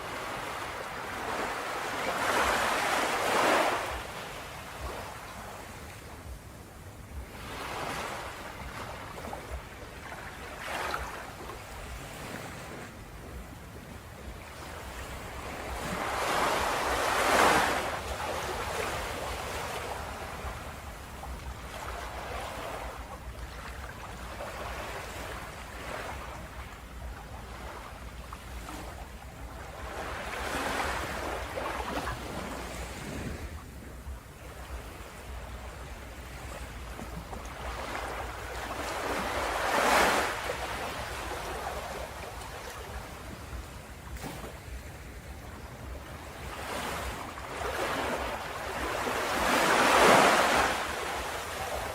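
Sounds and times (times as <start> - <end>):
ocean waves breaking on shore: 0.0 - 51.9.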